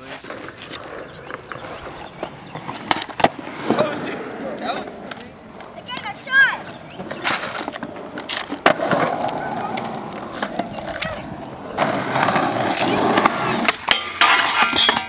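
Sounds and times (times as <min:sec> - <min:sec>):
skateboard clacking on ground: 0:00.0 - 0:15.0
skateboard wheels rolling on concrete: 0:00.0 - 0:15.0.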